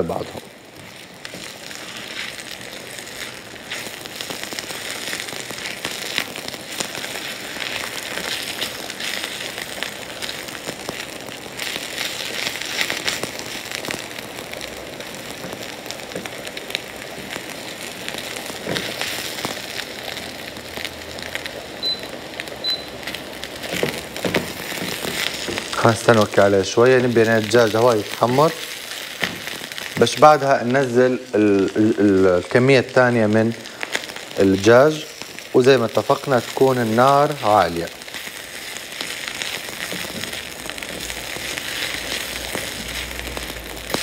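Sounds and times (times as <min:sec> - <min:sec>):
chicken sizzling in frying pan: 0:00.0 - 0:44.0
spatula turning food: 0:00.7 - 0:20.1, 0:23.0 - 0:30.1, 0:33.8 - 0:44.0.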